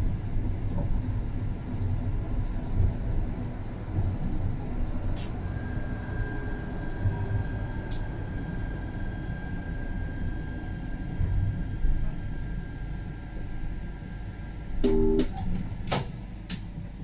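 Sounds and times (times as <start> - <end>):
tram rumbling on track: 0.0 - 17.0
tram whine: 0.0 - 17.0.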